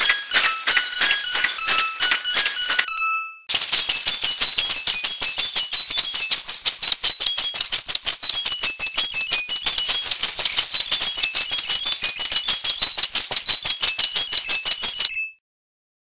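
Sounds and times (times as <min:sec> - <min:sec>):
fast rattling beat: 0:00.0 - 0:02.9, 0:03.5 - 0:15.2
tinkling high-pitched tune: 0:00.0 - 0:15.4.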